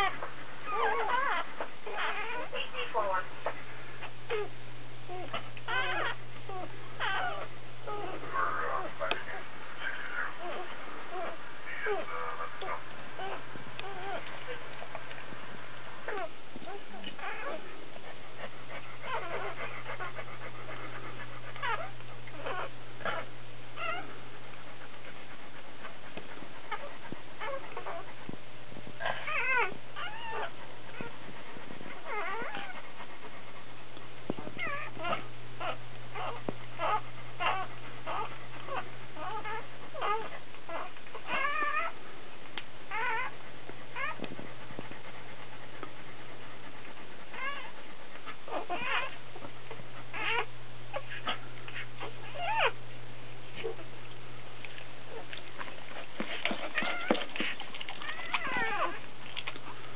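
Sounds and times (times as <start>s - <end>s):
puppies crying: 0.0s - 4.5s, 5.1s - 15.3s, 16.0s - 28.4s, 29.0s - 33.7s, 34.4s - 42.0s, 42.9s - 52.8s, 54.7s - 59.9s
steady low hum: 0.0s - 59.9s.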